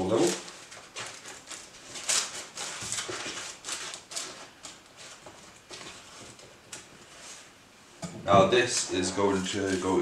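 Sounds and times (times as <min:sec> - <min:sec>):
baking paper rustling: 0:00.0 - 0:10.0.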